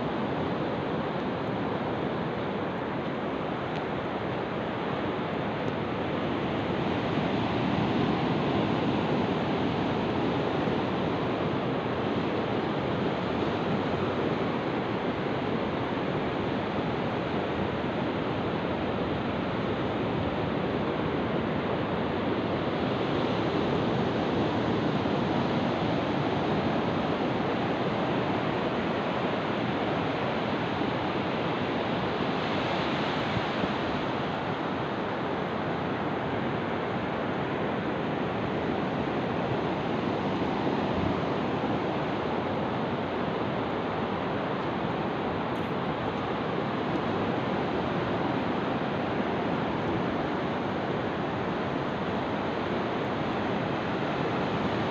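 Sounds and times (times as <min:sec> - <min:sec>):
ocean waves breaking on beach: 0:00.0 - 0:54.9.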